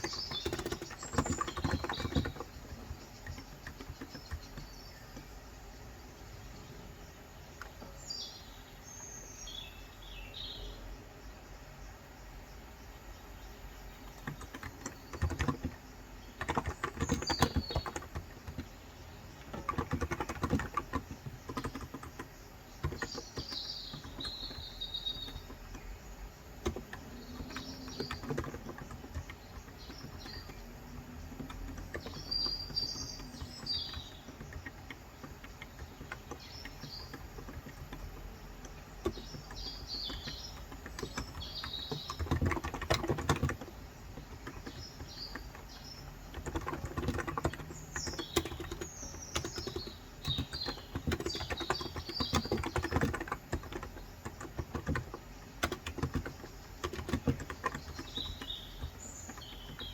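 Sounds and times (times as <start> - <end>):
bird chirps: 0.0 - 59.9.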